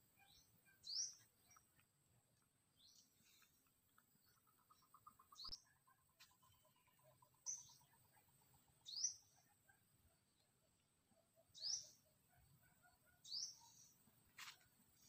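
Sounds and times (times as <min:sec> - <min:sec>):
bird chirping: 0:00.0 - 0:14.2.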